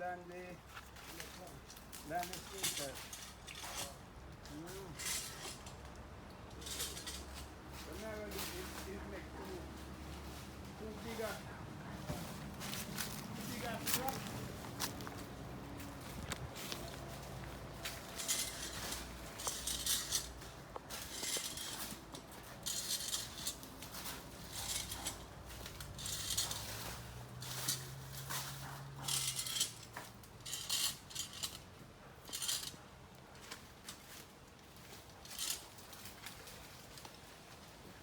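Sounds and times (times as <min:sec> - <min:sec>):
metal climber clinking on tree trunk: 0:00.7 - 0:09.5, 0:12.5 - 0:37.6.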